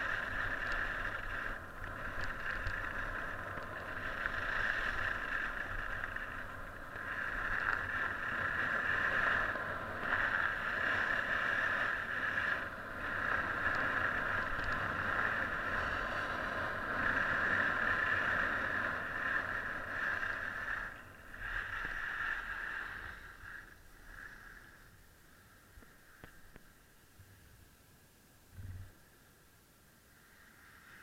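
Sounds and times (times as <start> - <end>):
skis hissing over snow: 0.0 - 26.2.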